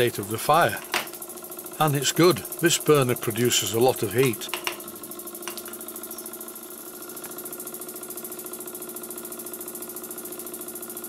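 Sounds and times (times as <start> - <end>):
toy steam engine running: 0.0 - 11.0.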